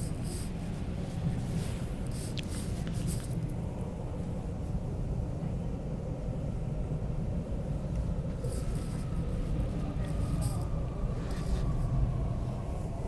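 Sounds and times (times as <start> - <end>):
train interior rumble: 0.0 - 13.0.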